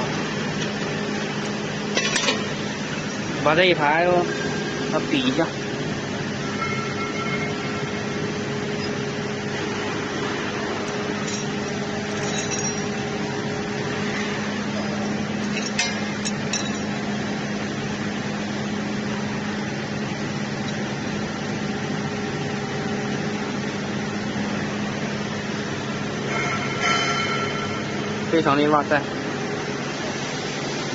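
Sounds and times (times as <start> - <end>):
workshop machinery hum: 0.0 - 30.9.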